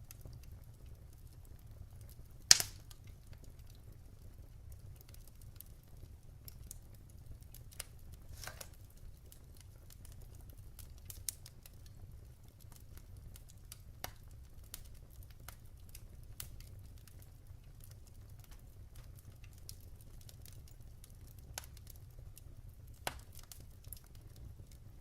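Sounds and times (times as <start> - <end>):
low rumble of flame: 0.0 - 25.0
wood fire crackling and popping: 0.0 - 25.0.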